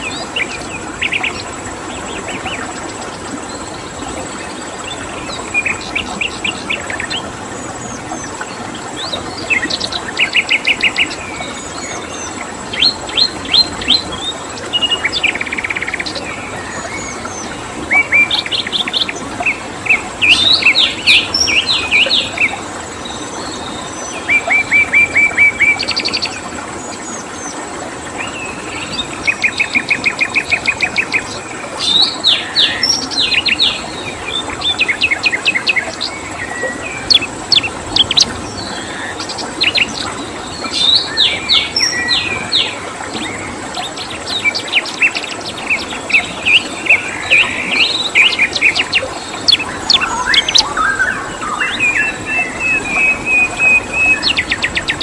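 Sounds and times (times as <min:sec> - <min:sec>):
faint high insect-like tone: 0:00.0 - 0:55.0
songbirds chirping and trilling: 0:00.0 - 0:55.0
steady background hiss: 0:00.0 - 0:55.0.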